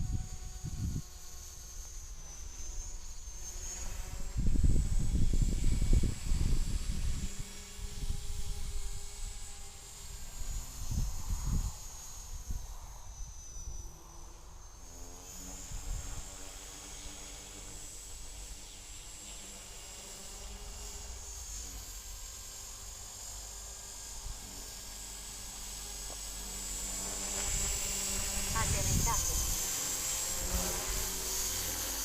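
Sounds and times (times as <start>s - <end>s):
model helicopter motor whine: 0.0s - 32.0s.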